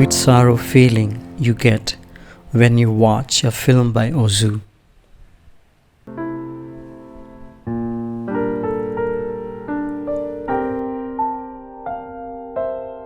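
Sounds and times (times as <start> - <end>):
slow piano chords: 0.0 - 3.8, 6.1 - 13.0.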